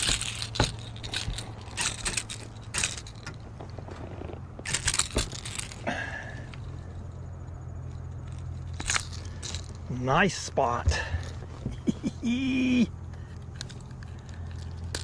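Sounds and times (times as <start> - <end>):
fishing tackle clattering: 0.0 - 3.8, 4.6 - 12.4, 13.1 - 15.0
steady low hum: 0.0 - 15.0.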